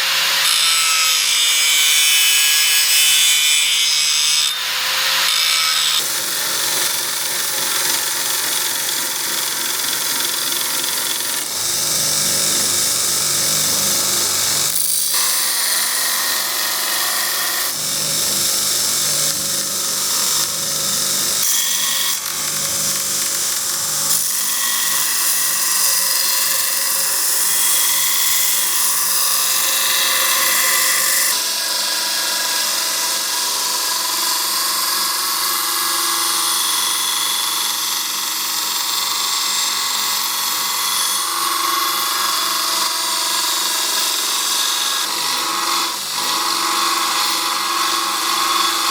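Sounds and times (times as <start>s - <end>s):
power tool grinding steel: 0.0s - 48.9s.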